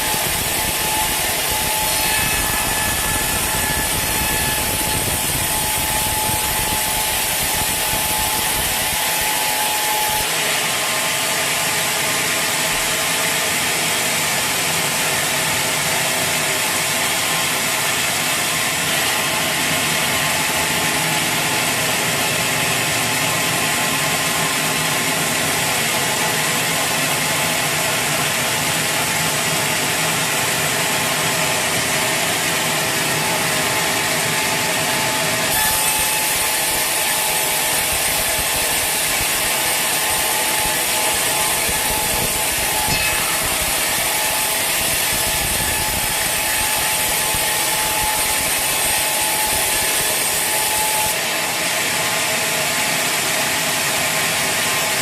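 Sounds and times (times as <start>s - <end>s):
sawmill saw running: 0.0s - 55.0s.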